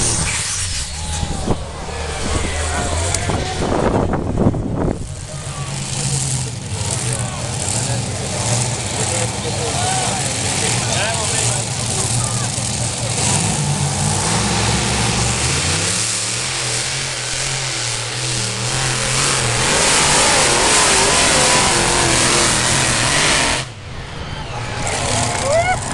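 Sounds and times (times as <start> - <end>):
diesel engine at full throttle: 0.0 - 25.9
rushing turbo noise: 0.0 - 25.9.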